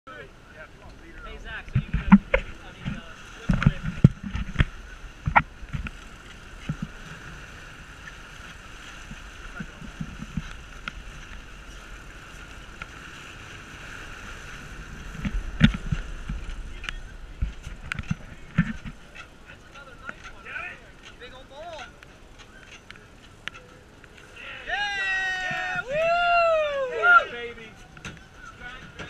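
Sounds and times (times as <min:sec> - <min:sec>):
water washing along hull: 0:00.1 - 0:29.0.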